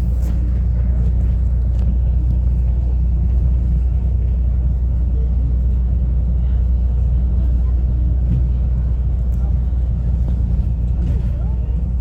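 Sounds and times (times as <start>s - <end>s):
school bus engine rumbling: 0.0s - 12.0s.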